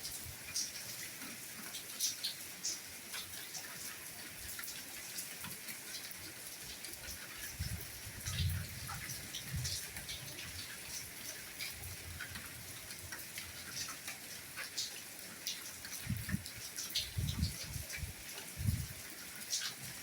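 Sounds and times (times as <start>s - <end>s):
rain drops pattering: 0.0s - 20.0s.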